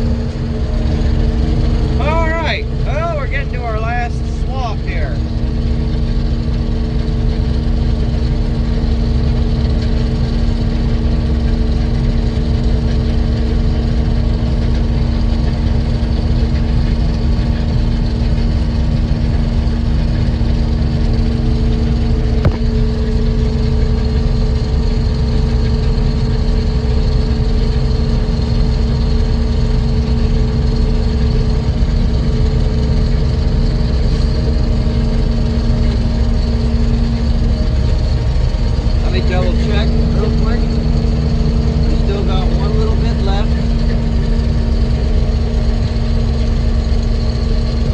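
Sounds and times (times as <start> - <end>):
farm vehicle engine rumbling: 0.0 - 47.9.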